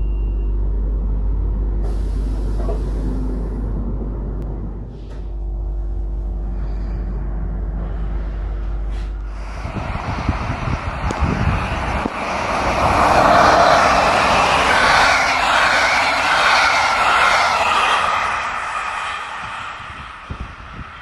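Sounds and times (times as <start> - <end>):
passenger train passing at speed: 0.0 - 21.0.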